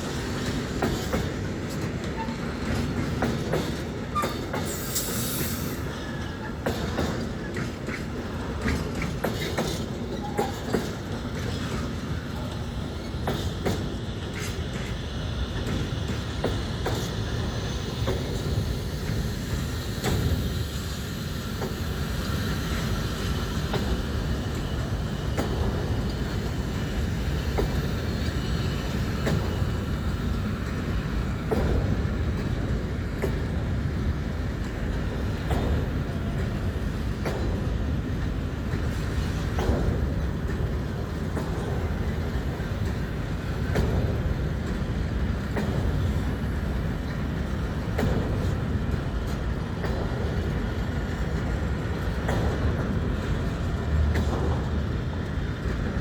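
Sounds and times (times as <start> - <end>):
freight train rumble: 0.0 - 56.0
wheels clicking over rail joints: 0.0 - 56.0.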